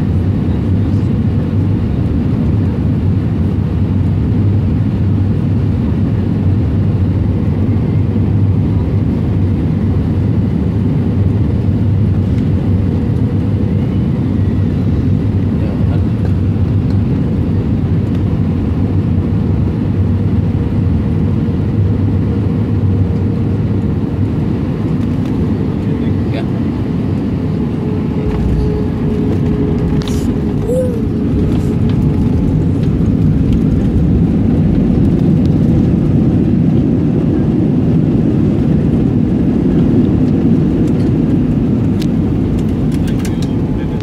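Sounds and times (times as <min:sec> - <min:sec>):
airliner cabin roar: 0:00.0 - 0:44.0.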